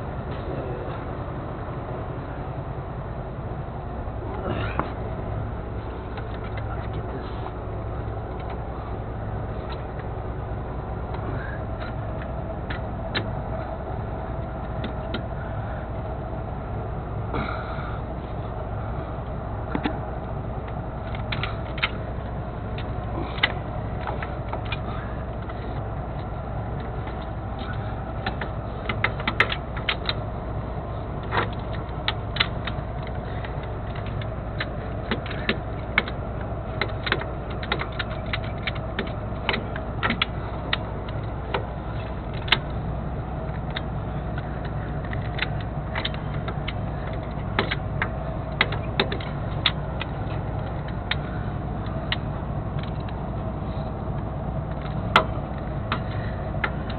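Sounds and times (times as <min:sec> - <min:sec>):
engine idling hum: 0:00.0 - 0:56.9.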